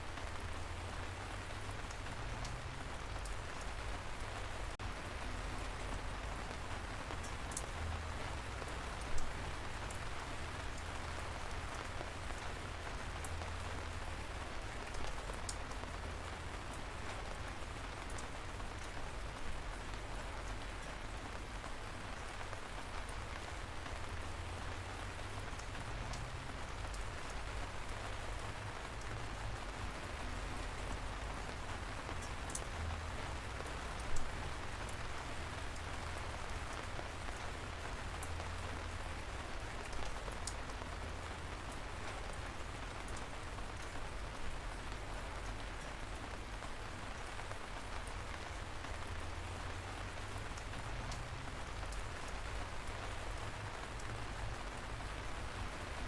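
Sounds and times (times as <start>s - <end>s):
light rain hiss: 0.0s - 56.0s
raindrops ticking: 0.0s - 56.0s.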